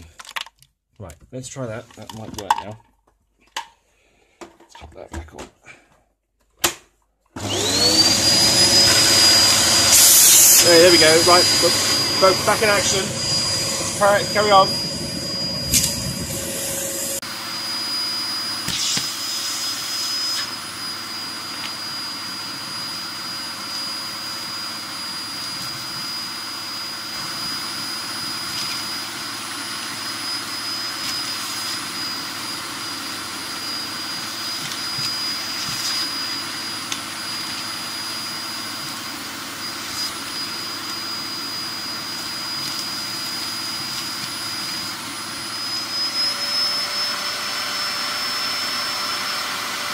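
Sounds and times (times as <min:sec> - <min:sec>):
upright vacuum cleaner whining: 0:07.4 - 0:49.9.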